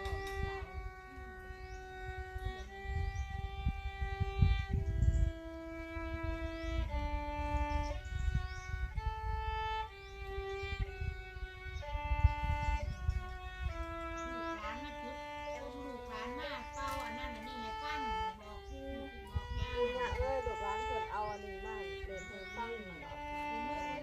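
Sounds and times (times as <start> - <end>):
low rumbling thumps: 0.0 - 23.9
solo violin slow melody: 0.0 - 24.0.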